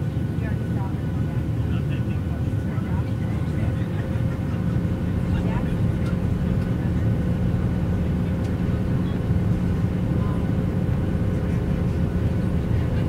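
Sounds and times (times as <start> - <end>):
jet engine rumble in cabin: 0.0 - 13.0.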